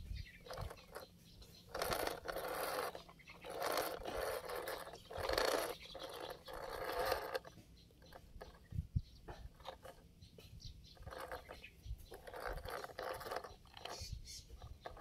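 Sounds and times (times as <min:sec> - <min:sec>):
gritty scraping noise: 0:00.0 - 0:15.0.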